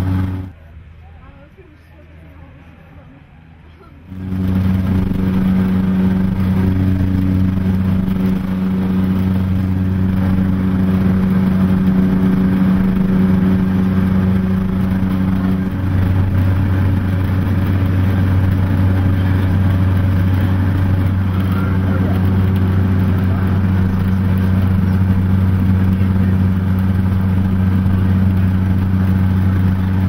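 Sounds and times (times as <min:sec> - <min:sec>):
turboprop engine cabin drone: 0:00.0 - 0:00.6, 0:04.0 - 0:30.0.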